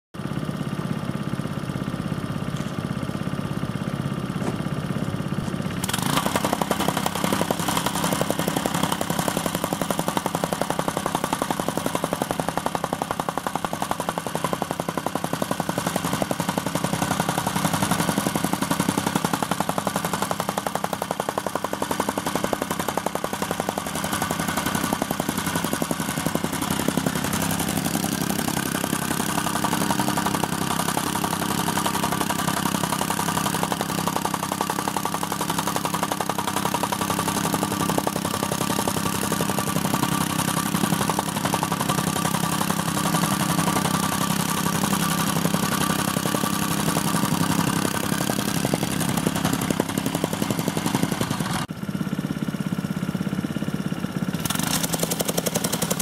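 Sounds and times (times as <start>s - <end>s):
rammer engine running: 0.2s - 56.0s
rammer pounding gravel: 0.4s - 52.1s, 52.7s - 56.0s.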